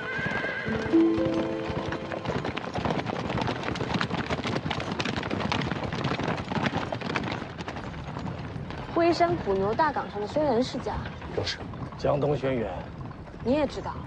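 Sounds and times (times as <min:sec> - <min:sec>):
horses galloping on dirt: 0:00.0 - 0:14.0.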